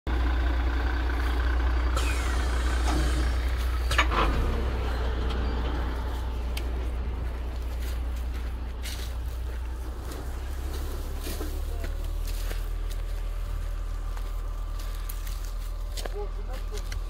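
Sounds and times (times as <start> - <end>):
truck engine deep hum: 0.1 - 17.0.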